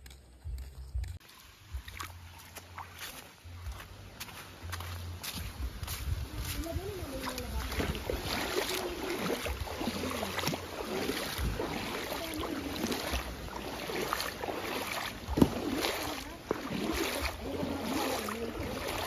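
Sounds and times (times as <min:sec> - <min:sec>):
footsteps wading through water: 0:00.0 - 0:19.0
water sloshing and splashing: 0:01.1 - 0:19.0.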